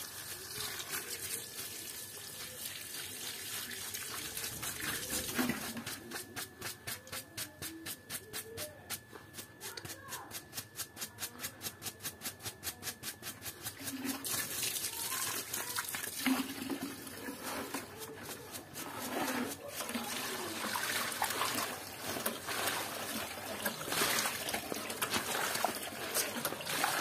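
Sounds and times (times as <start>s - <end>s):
brush scrubbing wet fabric: 0.0s - 8.7s, 9.8s - 15.5s, 16.3s - 27.0s.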